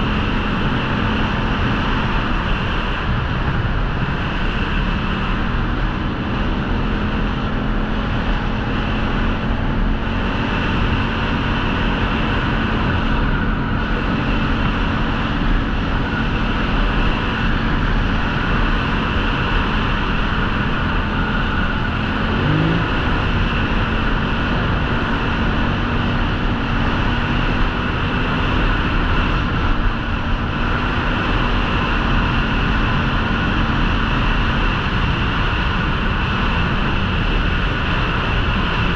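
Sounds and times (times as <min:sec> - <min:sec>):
atv engine running: 0:00.0 - 0:38.9
rumble and noise: 0:00.0 - 0:38.9.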